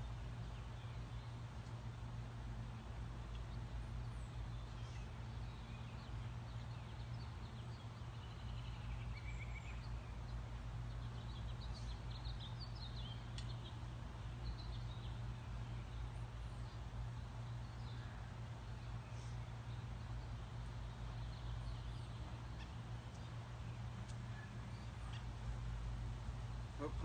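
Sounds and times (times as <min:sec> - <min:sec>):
outdoor background noise: 0:00.0 - 0:27.0
steady low hum: 0:00.0 - 0:27.0
birds chirping: 0:02.7 - 0:27.0.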